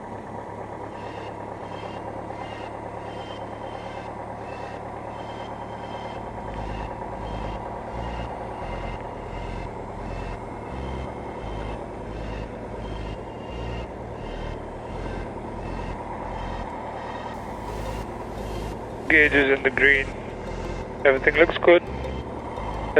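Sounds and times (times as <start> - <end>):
aircraft piston engine idling: 0.1 - 22.9.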